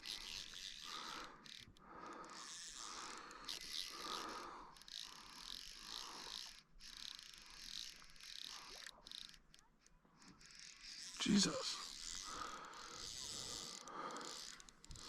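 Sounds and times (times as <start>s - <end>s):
fishing reel ratcheting: 0.0s - 15.0s.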